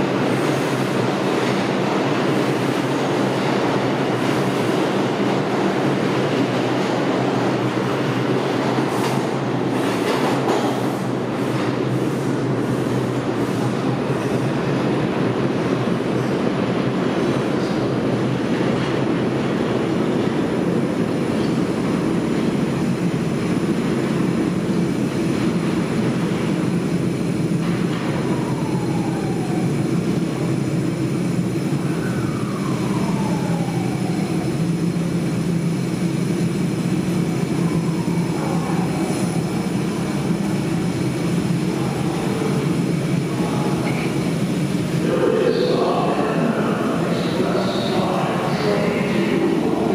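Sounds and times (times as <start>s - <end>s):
subway train rumbling: 0.0s - 49.9s.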